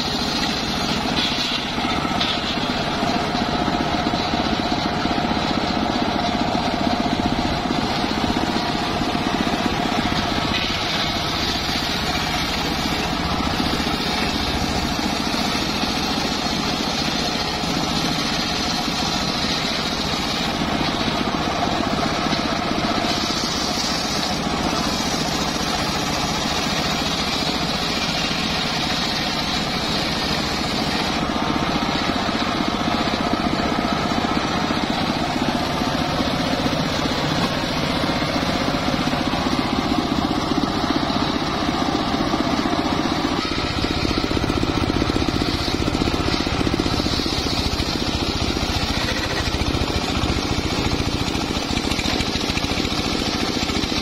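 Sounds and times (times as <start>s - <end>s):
circular sawmill cutting a log: 0.0s - 54.0s.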